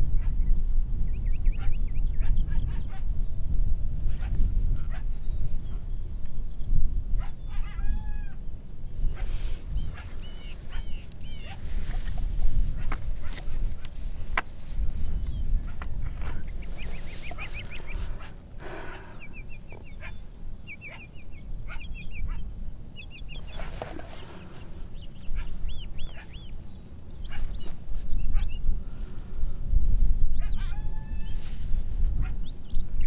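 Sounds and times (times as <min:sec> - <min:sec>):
coyotes yipping: 0:01.4 - 0:03.2, 0:04.0 - 0:06.0, 0:07.1 - 0:08.4, 0:09.0 - 0:28.7, 0:30.4 - 0:32.8.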